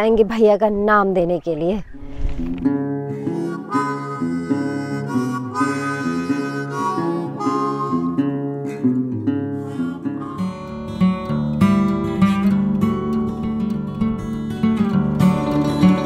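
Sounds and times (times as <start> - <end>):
guitar accompaniment: 2.4 - 16.0
harmonica-like melody: 2.8 - 16.0.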